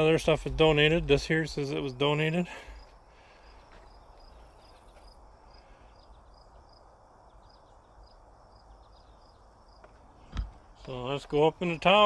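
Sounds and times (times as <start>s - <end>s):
songbird notes: 0.0s - 12.0s.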